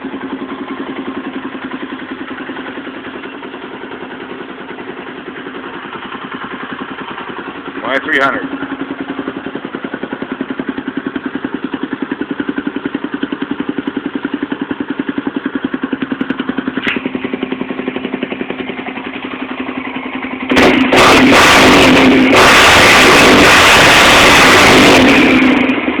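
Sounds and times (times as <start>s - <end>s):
quad engine idling: 0.0s - 26.0s.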